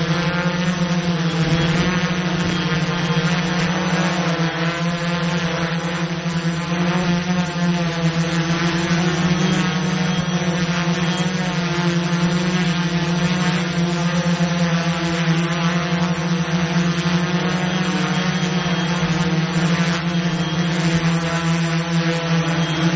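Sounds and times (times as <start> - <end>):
drone propellers humming: 0.0 - 22.9.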